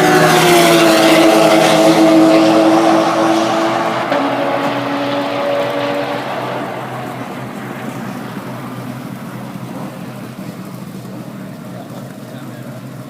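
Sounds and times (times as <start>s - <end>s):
car engine passing at speed: 0.0s - 11.2s.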